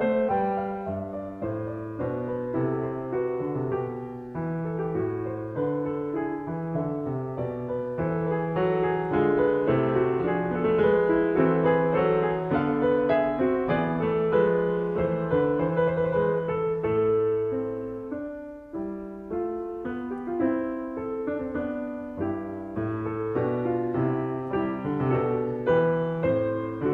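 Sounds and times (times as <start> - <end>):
piano music: 0.0 - 26.9.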